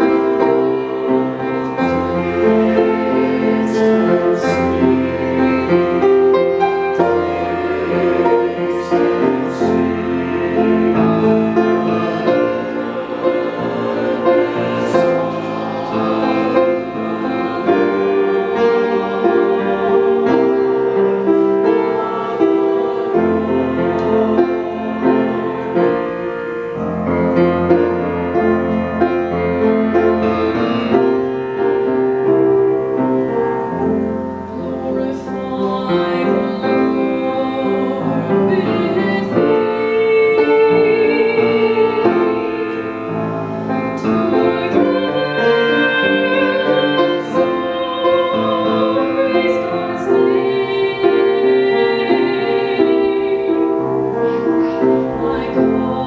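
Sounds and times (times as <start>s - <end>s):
choir singing a hymn: 0.0s - 56.0s
instrumental accompaniment: 0.0s - 56.0s.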